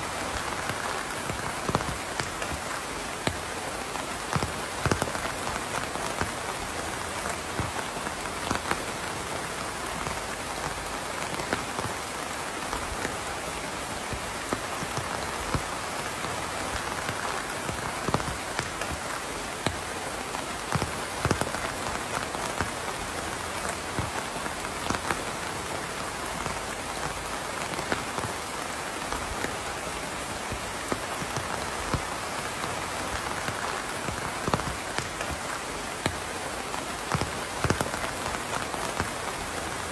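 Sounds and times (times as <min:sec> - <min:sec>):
raindrops ticking and splatting: 0:00.0 - 0:39.9
steady rain: 0:00.0 - 0:39.9.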